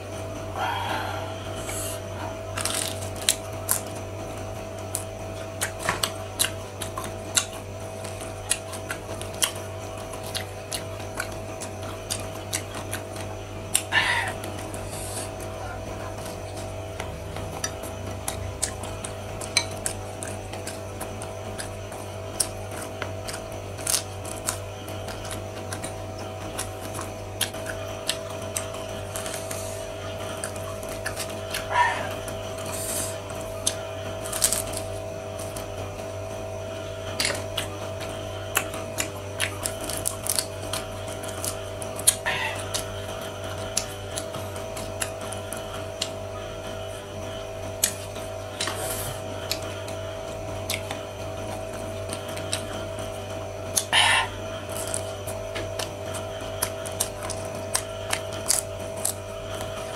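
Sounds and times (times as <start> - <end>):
steady low hum: 0.0 - 59.9
chewing crispy fried shrimp: 0.1 - 59.9.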